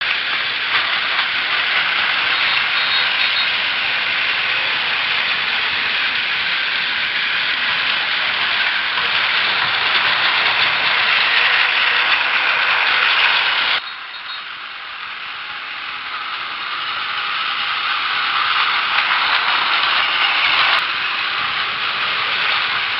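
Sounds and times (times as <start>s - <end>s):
toy trains running on plastic track: 0.0s - 22.9s.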